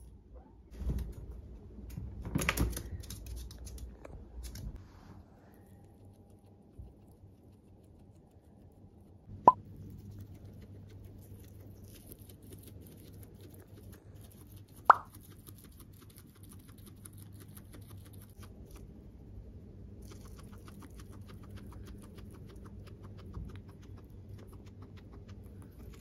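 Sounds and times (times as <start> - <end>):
guinea pig munching grass: 2.4 - 26.0.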